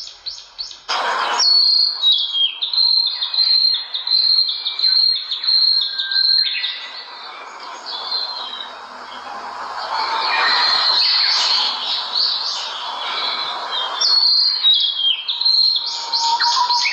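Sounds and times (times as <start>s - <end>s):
songbirds chirping and twittering: 0.0s - 16.9s.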